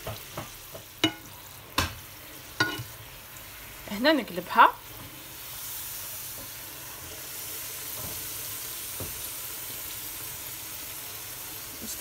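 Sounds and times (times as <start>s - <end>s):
dough sizzling in hot oil: 0.0s - 12.0s.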